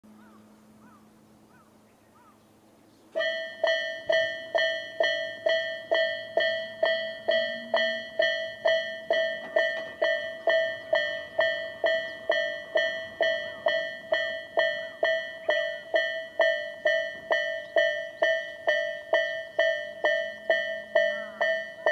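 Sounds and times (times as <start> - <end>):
level crossing alarm bell: 3.2 - 21.9.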